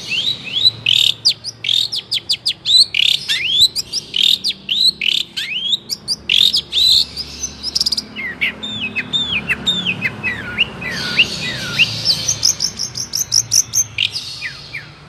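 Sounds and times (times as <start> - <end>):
bird chattering song: 0.0 - 15.0.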